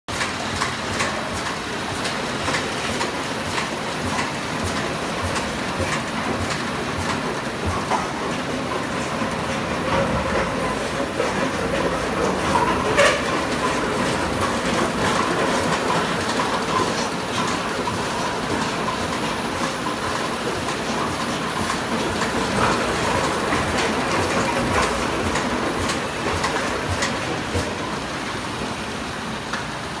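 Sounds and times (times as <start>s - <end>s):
loud machine knock: 0.1s - 28.0s
plastic bottles clattering on conveyors: 0.1s - 28.7s
steady machine noise: 0.1s - 30.0s.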